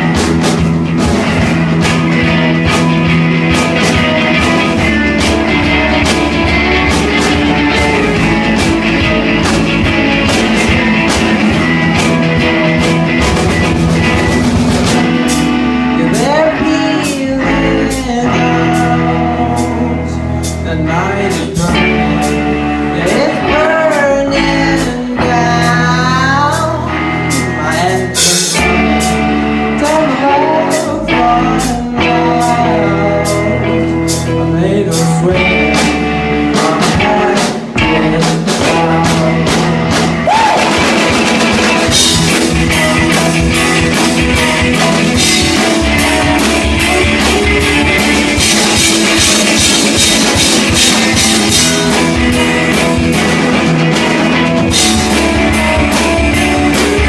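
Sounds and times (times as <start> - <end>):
bass guitar: 0.0 - 57.0
drum kit: 0.0 - 57.0
electric guitar: 0.0 - 57.0
person singing: 1.3 - 57.0.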